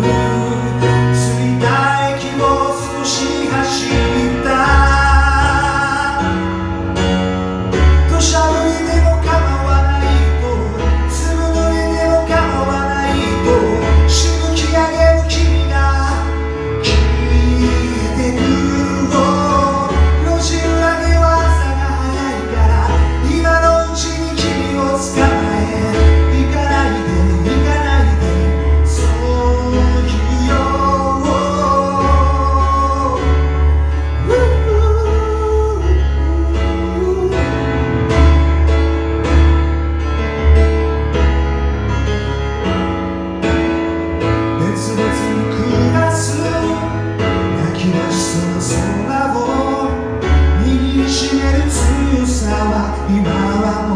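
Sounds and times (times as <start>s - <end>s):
man singing: 0.0s - 38.6s, 44.6s - 53.9s
piano ballad: 0.0s - 53.9s.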